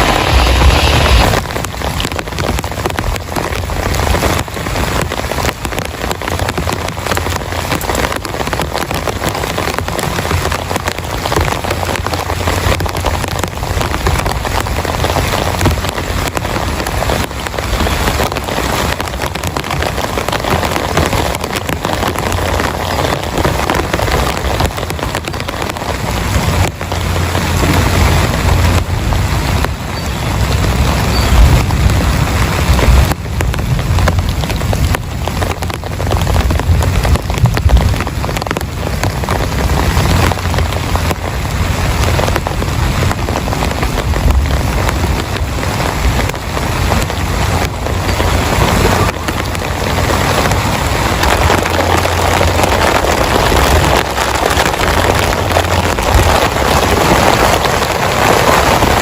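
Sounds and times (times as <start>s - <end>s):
heavy rain falling: 0.0s - 59.0s
low rumble: 0.0s - 59.0s.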